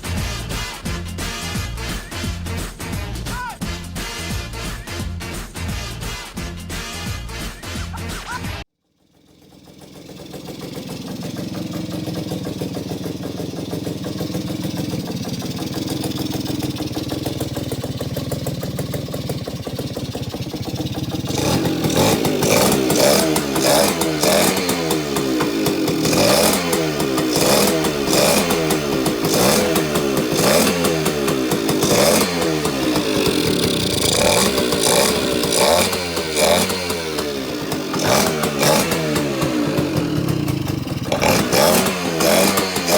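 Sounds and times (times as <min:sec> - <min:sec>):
moped engine idling and revving: 0:00.0 - 0:42.9.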